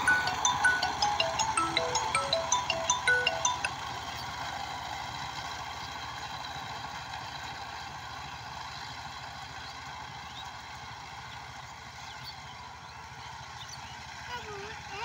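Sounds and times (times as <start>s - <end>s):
tiller diesel engine running: 0.0s - 15.0s.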